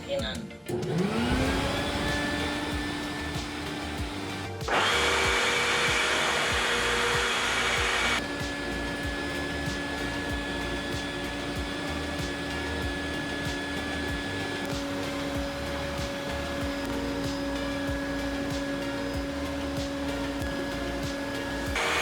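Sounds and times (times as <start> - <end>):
vacuum cleaner motor whining: 0.7 - 22.0.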